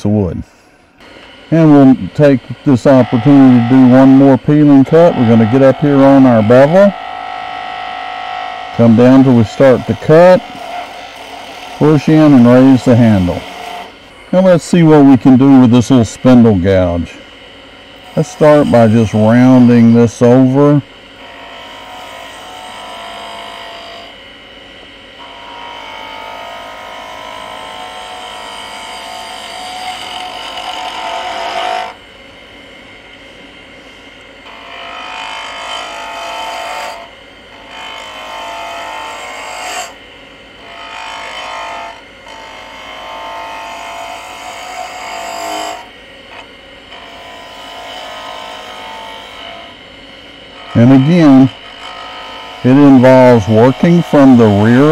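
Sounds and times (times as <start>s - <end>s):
lathe humming: 0.0s - 54.9s
gouge cutting spinning wood: 1.0s - 24.3s, 25.2s - 32.0s, 34.4s - 40.0s, 40.6s - 54.9s.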